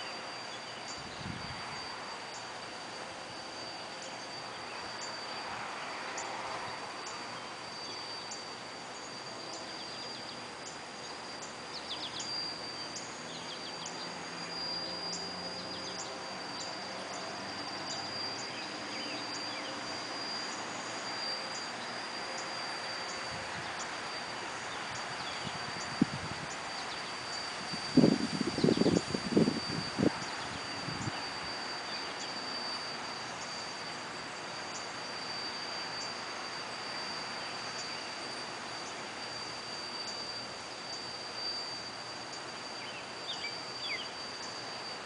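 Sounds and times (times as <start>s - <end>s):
vacuum motor whining: 0.0s - 45.0s.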